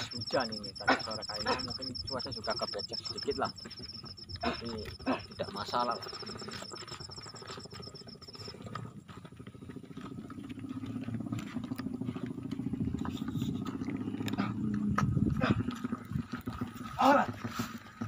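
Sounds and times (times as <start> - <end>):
insect trilling: 0.0 - 18.0.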